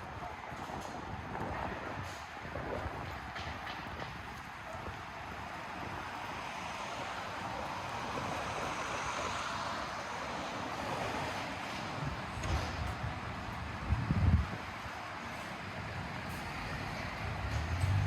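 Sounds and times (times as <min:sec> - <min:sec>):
hiss of passing traffic: 0:00.1 - 0:18.0.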